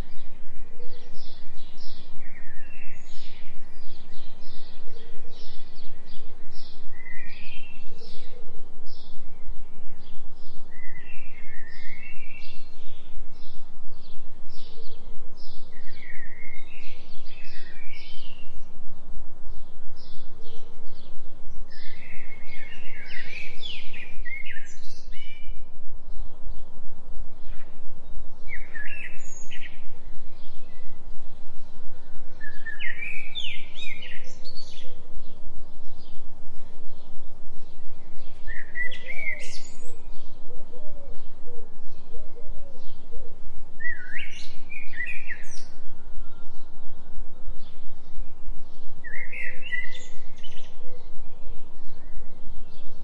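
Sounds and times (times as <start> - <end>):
forest birds chirping: 0.0 - 53.0
low pulsing drone: 0.0 - 53.0.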